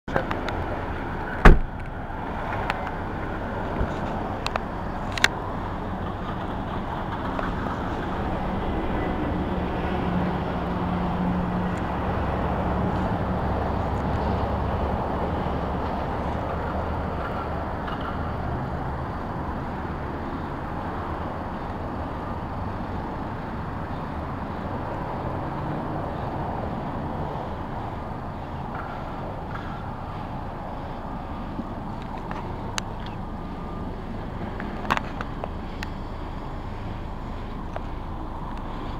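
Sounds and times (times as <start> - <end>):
passing cars traffic noise: 0.1 - 38.9
vehicle engine hum: 0.1 - 38.9.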